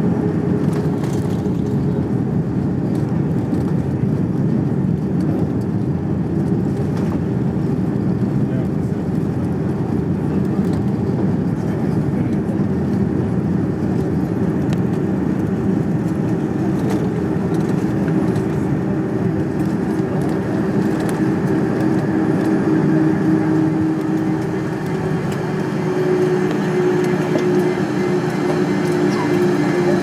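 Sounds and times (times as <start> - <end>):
aircraft cabin rumble: 0.0 - 30.0
jet engine hum: 0.0 - 30.0.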